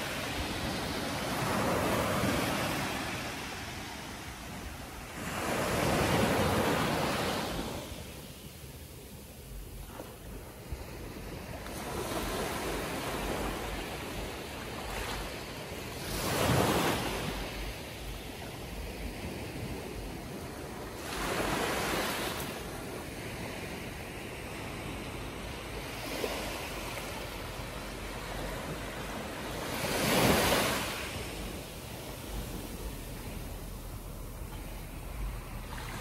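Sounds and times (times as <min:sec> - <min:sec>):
small waves washing up beach: 0:00.0 - 0:36.0.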